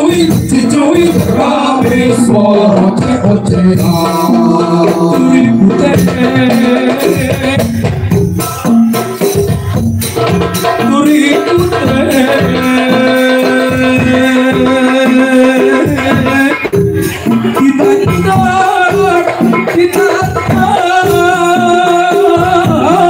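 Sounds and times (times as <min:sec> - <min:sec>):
busy percussion beat: 0:00.0 - 0:23.0.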